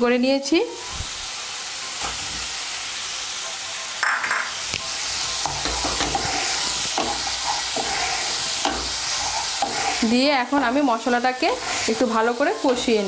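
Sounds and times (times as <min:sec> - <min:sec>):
food sizzling in hot oil: 0:00.0 - 0:13.0
spatula stirring and scraping pan: 0:01.7 - 0:13.0.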